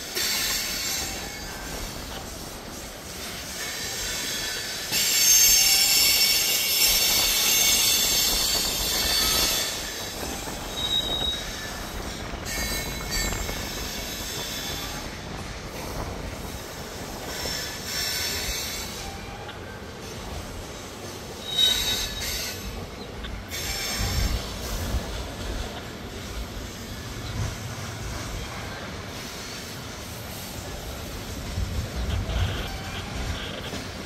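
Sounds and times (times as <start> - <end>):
train wheels squealing on rails: 0.0 - 34.0.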